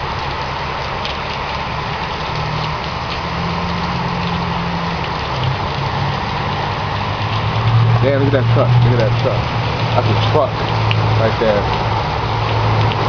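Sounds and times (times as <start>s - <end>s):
vehicle engines humming: 0.0s - 13.0s.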